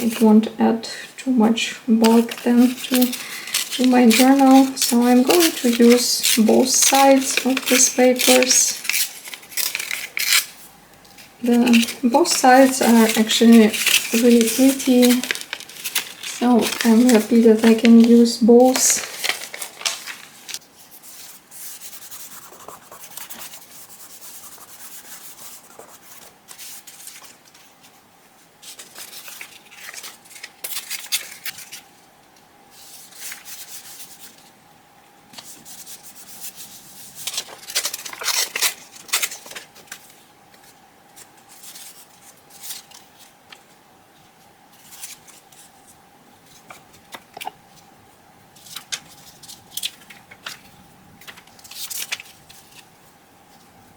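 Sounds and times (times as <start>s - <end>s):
paper rustling and rubbing: 0.0s - 0.4s, 1.9s - 28.0s, 28.6s - 32.0s, 32.7s - 34.5s, 35.4s - 47.9s, 48.6s - 53.8s.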